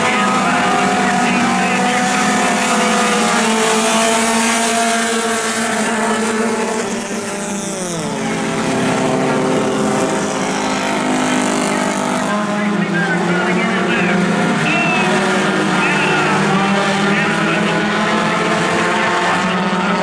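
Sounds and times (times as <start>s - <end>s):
race car engines running hard: 0.0s - 20.0s.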